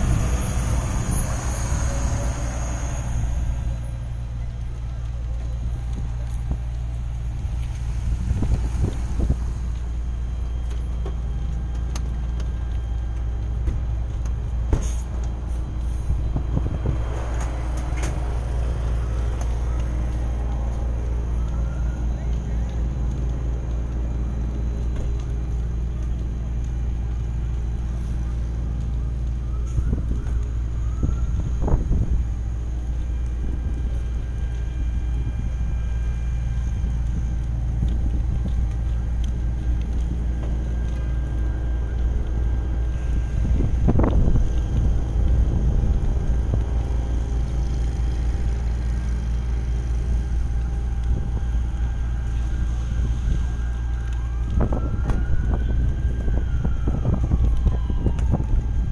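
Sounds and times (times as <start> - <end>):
wind buffeting microphone: 0.0 - 11.8, 14.3 - 26.9, 27.6 - 58.9
fire engines droning: 0.0 - 58.9.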